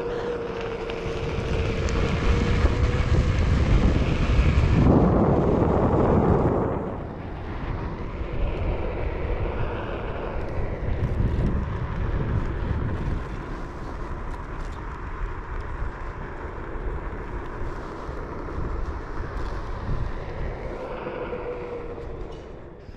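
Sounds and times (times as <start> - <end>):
faint steady whine: 0.0 - 22.9
low rumble of movement: 0.0 - 22.9.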